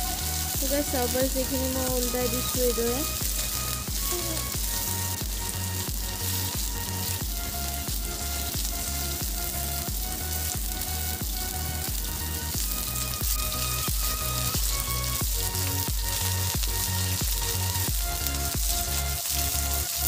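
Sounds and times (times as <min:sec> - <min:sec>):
background music with beat: 0:00.0 - 0:20.0
oil sizzling: 0:00.0 - 0:20.0.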